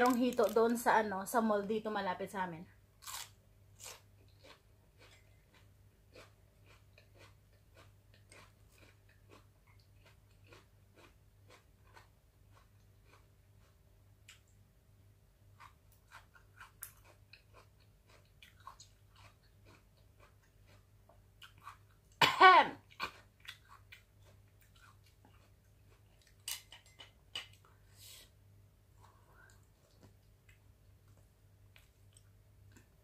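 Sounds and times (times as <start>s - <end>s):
person chewing food: 3.0s - 14.6s, 15.4s - 22.2s, 22.8s - 28.0s, 28.9s - 33.0s.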